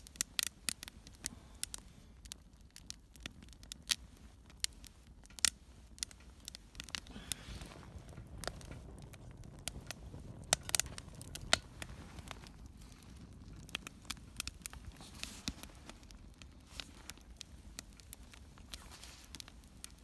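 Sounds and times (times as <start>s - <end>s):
log fire crackling and popping: 0.0s - 20.0s.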